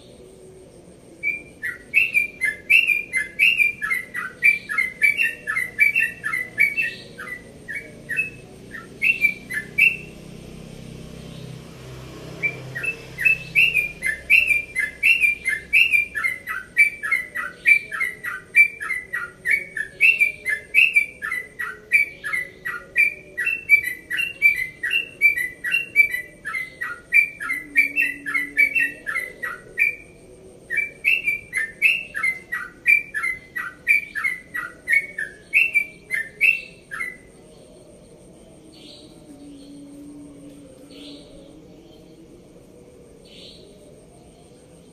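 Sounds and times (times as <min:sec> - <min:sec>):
bulbul singing rapid chirps: 0:00.0 - 0:42.4.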